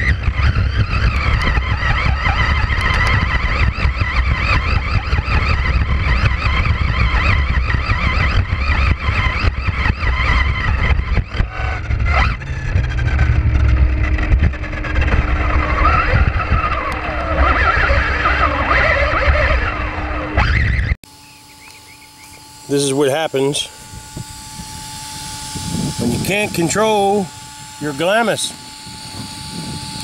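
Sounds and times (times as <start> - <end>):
wind and chassis rumble: 0.0 - 21.0, 23.7 - 30.0
electric motor whine: 0.0 - 30.0.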